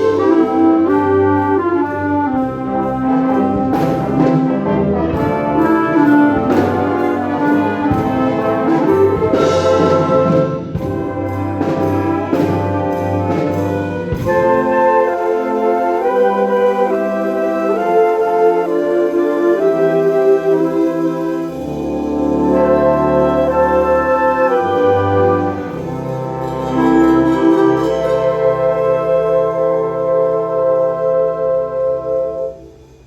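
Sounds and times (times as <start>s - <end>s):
concert wind band playing: 0.0s - 33.0s.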